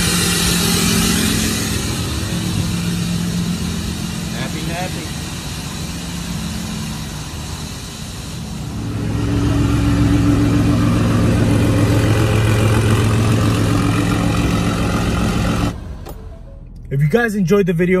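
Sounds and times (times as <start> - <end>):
truck engine exhaust note: 0.0 - 18.0.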